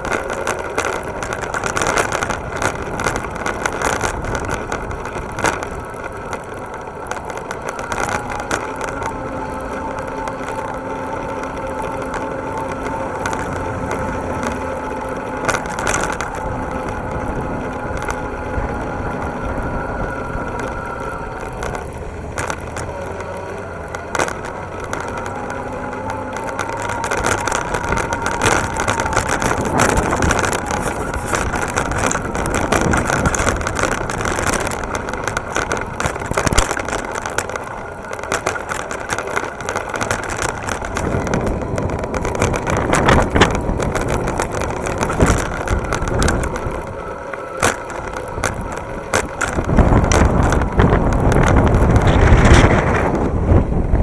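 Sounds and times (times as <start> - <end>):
rattles and knocks from bumps: 0.0 - 54.0
tyres rumbling on pavement: 0.0 - 54.0.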